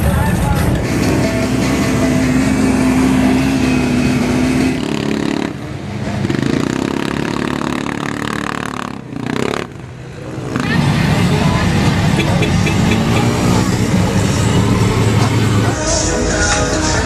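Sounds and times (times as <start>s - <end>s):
quad bike engine driving through mud: 0.0s - 15.8s
off-road vehicle engine running: 0.0s - 17.0s.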